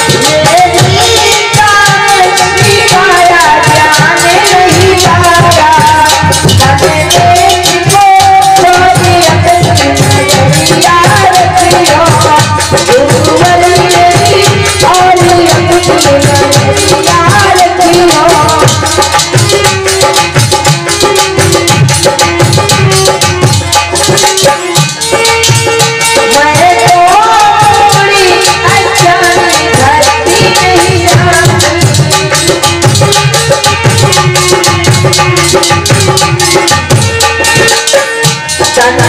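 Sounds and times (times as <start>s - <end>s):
hand drums: 0.0s - 39.0s.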